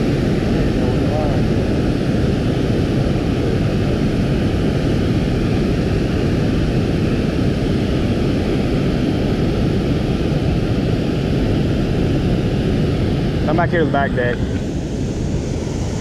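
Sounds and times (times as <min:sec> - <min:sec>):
water roaring over spillway: 0:00.0 - 0:16.0.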